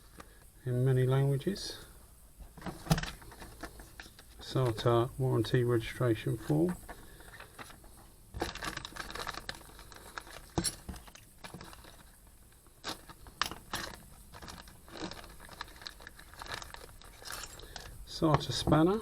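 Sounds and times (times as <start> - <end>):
packaging rustling and crinkling: 2.4 - 19.0.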